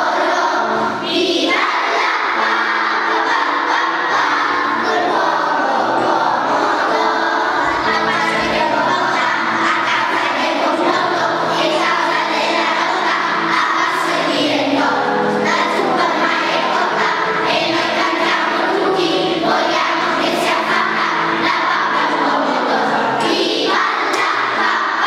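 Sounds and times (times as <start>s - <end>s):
children's choir singing: 0.0s - 25.0s.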